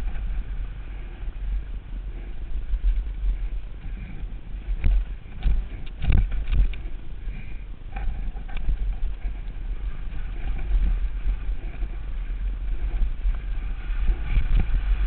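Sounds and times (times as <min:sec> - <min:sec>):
light bike clicks: 0:00.0 - 0:15.0
wind buffeting and tyre rumble: 0:00.0 - 0:15.0.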